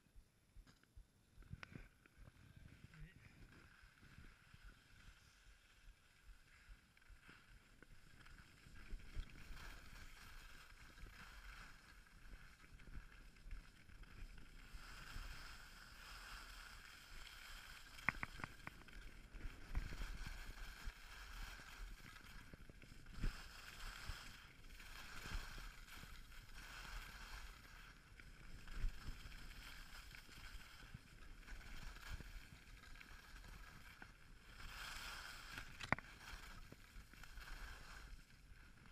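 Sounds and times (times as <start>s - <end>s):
skis scraping over snow: 2.3s - 38.9s.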